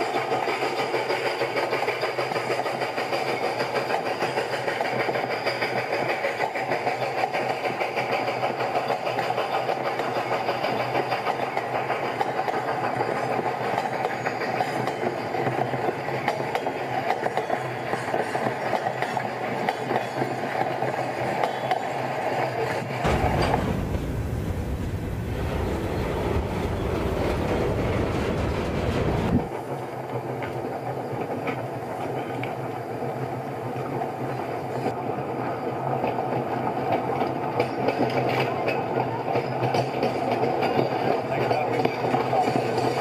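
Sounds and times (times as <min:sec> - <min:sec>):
train rumbling on track: 0:00.0 - 0:43.0.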